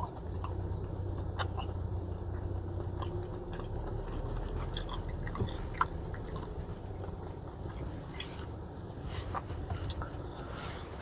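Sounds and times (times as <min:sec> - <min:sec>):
car engine idling hum: 0:00.0 - 0:11.0.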